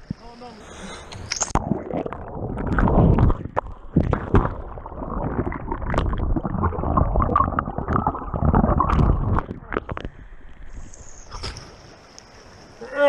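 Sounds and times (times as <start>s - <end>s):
muffled underwater river churning: 0.0s - 13.0s.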